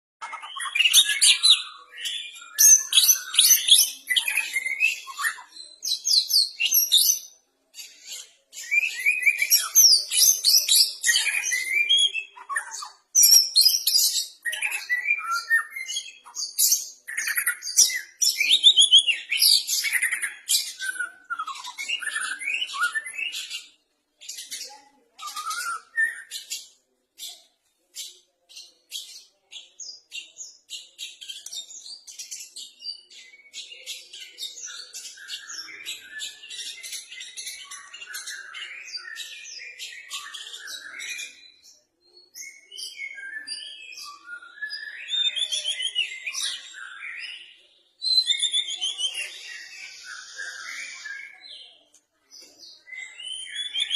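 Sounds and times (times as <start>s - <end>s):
songbird singing trills and whistles: 0.2s - 53.9s.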